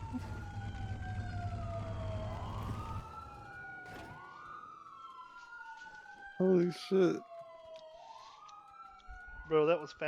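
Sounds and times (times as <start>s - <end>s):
police siren wailing: 0.0s - 10.0s.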